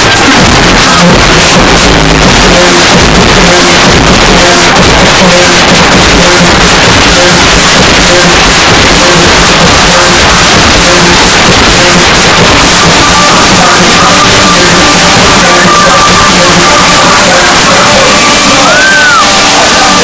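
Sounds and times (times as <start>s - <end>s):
distorted club music: 0.0s - 20.0s.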